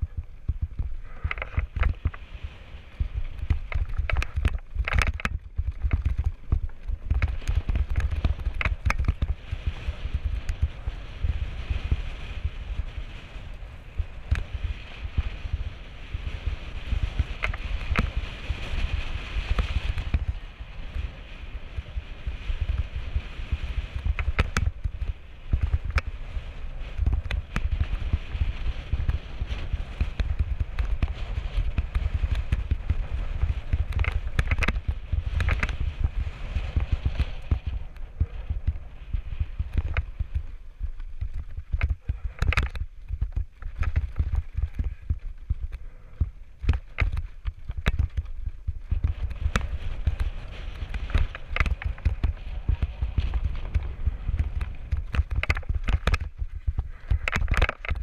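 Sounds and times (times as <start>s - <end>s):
bike rattling: 0.0s - 58.0s
tyres on dirt: 0.0s - 58.0s
wind rumble on microphone: 0.0s - 58.0s.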